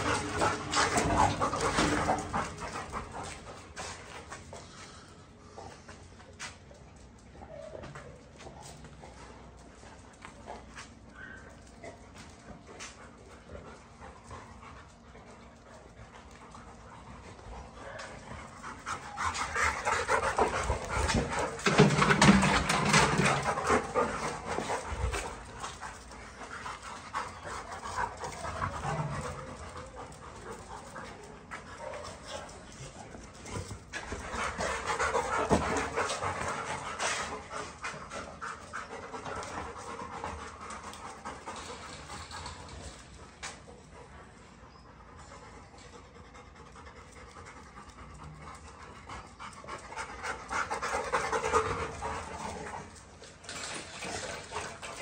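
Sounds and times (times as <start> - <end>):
dogs panting hard: 0.0 - 6.1, 12.1 - 55.0.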